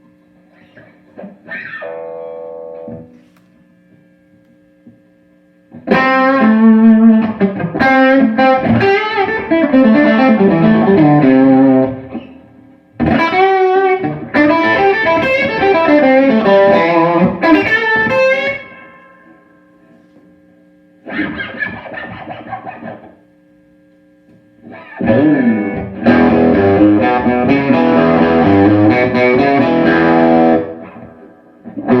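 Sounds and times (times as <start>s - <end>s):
electric guitar lead phrases: 0.0s - 5.0s, 5.7s - 20.3s, 21.0s - 23.2s, 24.6s - 32.0s
faint steady hum: 0.0s - 32.0s.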